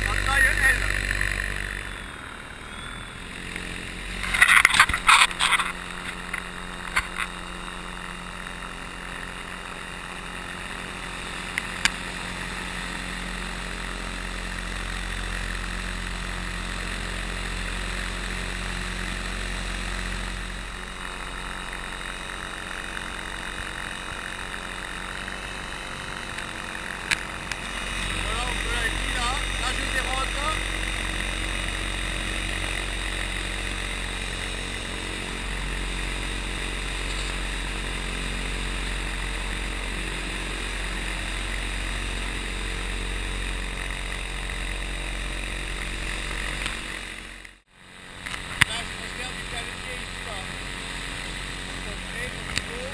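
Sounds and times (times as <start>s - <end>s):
electric motor and propeller hum: 0.0s - 52.9s.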